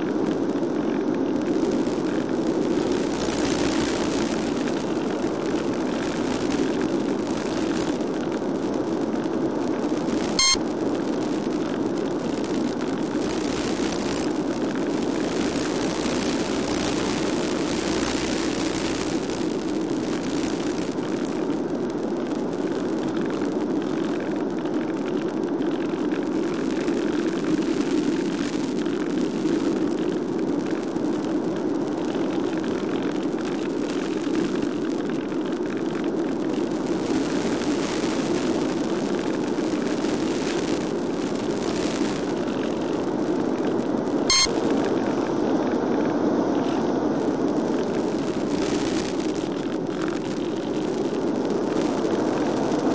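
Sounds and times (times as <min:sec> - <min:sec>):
rushing wind noise: 0:00.0 - 0:52.9.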